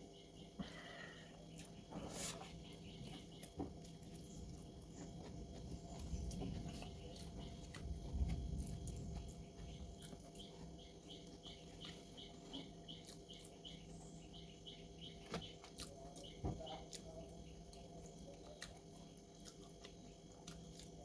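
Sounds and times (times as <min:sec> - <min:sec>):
soft chewing thumps: 0:01.4 - 0:13.9, 0:15.0 - 0:21.0.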